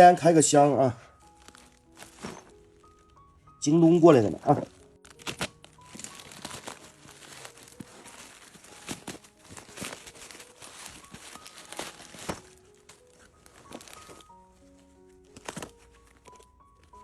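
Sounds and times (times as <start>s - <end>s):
plastic and tape crinkling and tearing: 0.0s - 17.0s.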